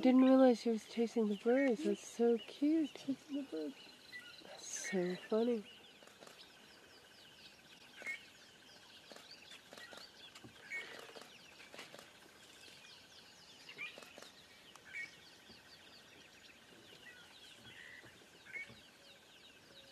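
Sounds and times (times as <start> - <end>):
high bird chirps chorus: 0.0 - 19.9.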